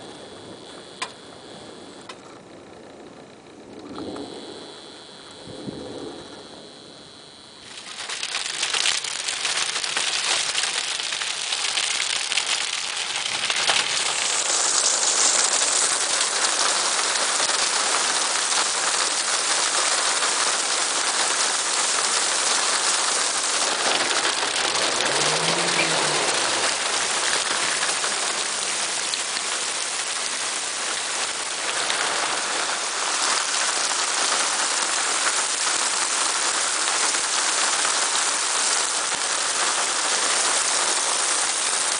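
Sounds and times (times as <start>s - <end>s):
heavy rain pouring: 3.7s - 41.9s
water rushing over road: 7.6s - 41.9s.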